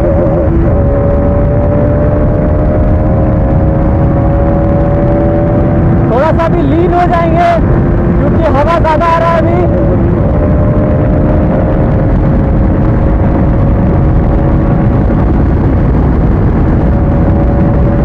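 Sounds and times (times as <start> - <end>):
motorcycle engine: 0.0 - 18.0
wind rush on microphone: 0.0 - 18.0.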